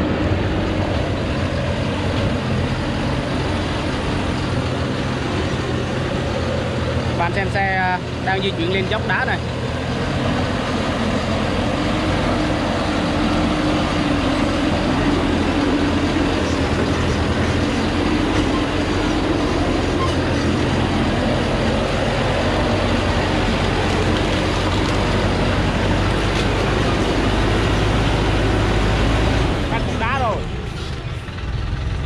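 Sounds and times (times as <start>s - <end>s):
diesel truck engine under load: 0.0s - 32.0s.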